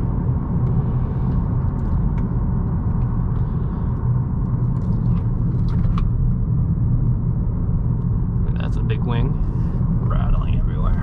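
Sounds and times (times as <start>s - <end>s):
car driving low rumble: 0.0s - 11.0s.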